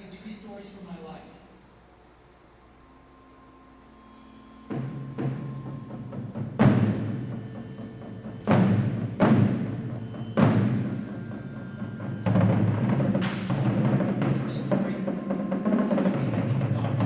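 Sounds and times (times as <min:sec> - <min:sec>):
percussion ensemble playing: 0:00.0 - 0:17.0.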